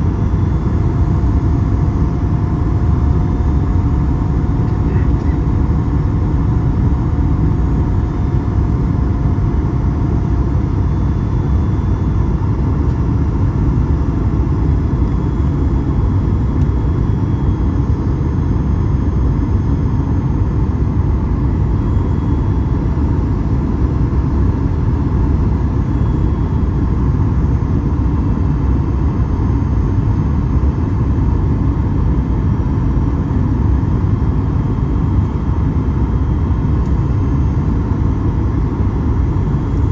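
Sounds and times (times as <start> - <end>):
faint steady hum: 0.0 - 27.9, 32.9 - 39.9
airplane cabin engine rumble: 0.0 - 29.4, 30.0 - 39.9.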